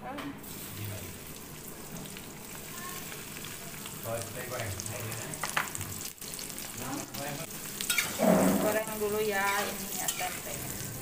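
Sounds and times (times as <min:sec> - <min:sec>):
food sizzling in hot oil: 0:00.4 - 0:11.0.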